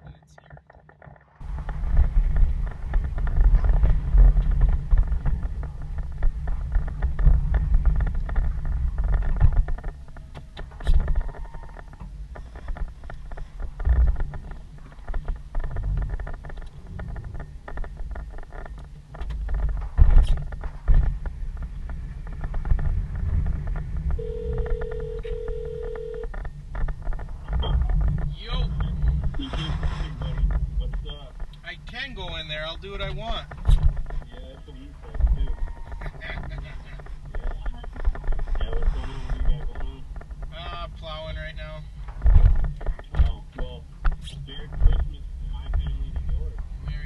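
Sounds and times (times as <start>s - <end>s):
clunks and rattles: 0.0s - 47.0s
heavy engine rumbling: 0.0s - 47.0s.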